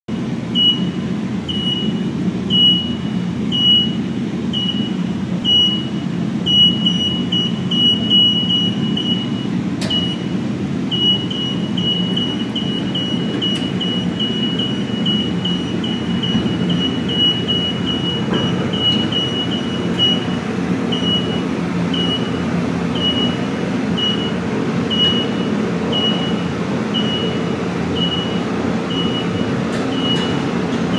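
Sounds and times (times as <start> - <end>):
carts rolling rumble: 0.2 - 30.9
high warning beeps: 0.5 - 30.5.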